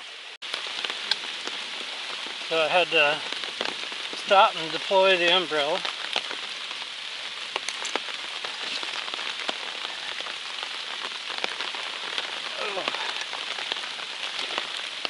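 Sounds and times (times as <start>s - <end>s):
rain hissing: 0.0s - 15.0s
raindrops ticking on umbrella: 0.0s - 15.0s.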